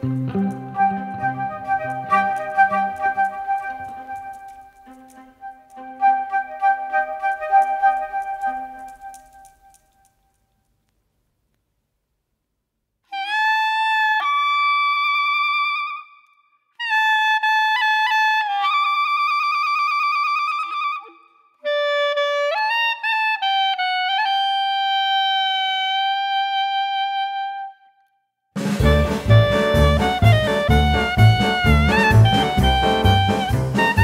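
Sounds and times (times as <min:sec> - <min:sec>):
solo wind instrument melody: 0:00.0 - 0:10.0, 0:13.1 - 0:34.0.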